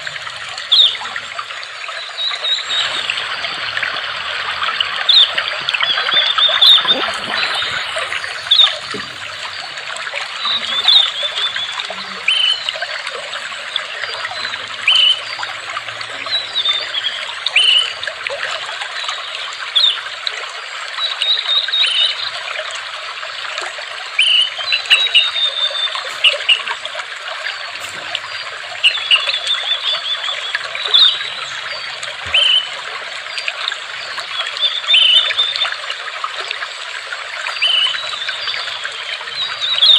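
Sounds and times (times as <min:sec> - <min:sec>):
birds chirping: 0:00.0 - 0:18.0, 0:24.2 - 0:35.8, 0:37.4 - 0:39.9
water trickling and babbling: 0:00.0 - 0:39.9.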